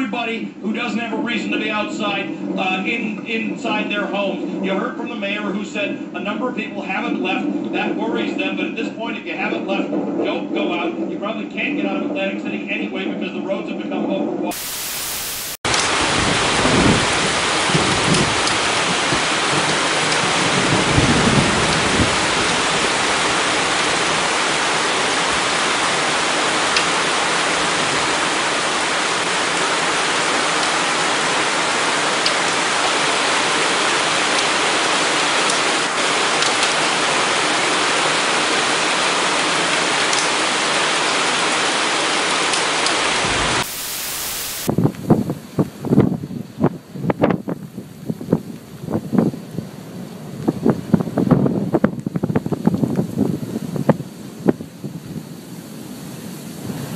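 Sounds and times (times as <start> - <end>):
wind gusts buffeting microphone: 0.0 - 14.6, 15.7 - 56.9
heavy rain and wind hiss: 0.0 - 56.9.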